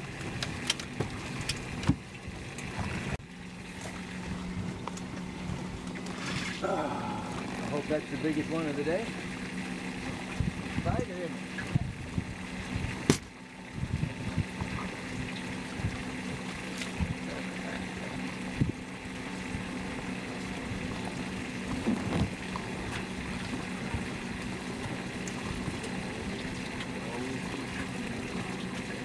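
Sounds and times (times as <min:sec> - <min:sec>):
boat motor humming: 0:00.0 - 0:29.0.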